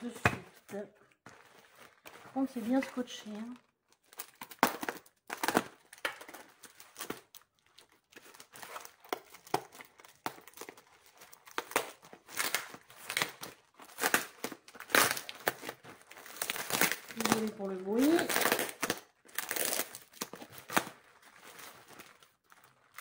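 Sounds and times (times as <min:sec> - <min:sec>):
plastic bag crinkling: 0:00.0 - 0:23.0
plastic tearing: 0:00.0 - 0:23.0.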